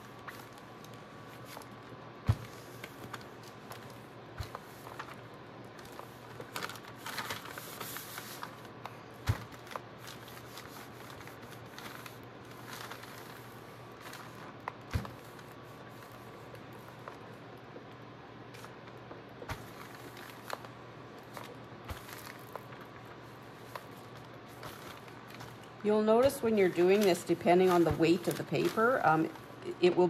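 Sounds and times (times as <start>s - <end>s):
paper crinkling and rustling: 0.0s - 17.5s, 18.5s - 30.0s.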